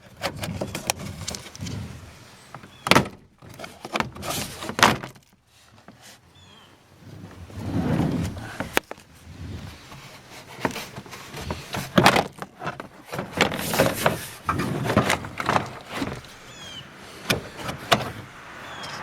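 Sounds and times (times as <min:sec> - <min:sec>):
plastic panel scraping: 0:00.0 - 0:18.5.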